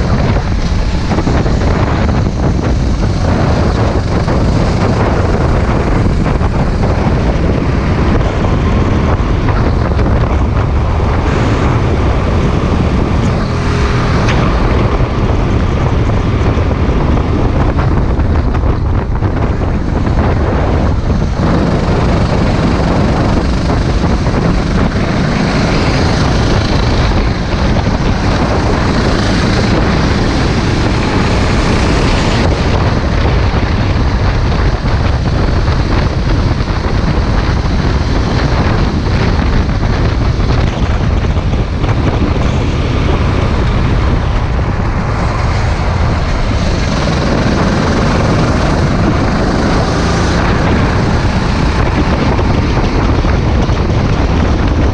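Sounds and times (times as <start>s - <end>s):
kart engine running: 0.0s - 54.9s
wind buffeting on microphone: 0.0s - 54.9s.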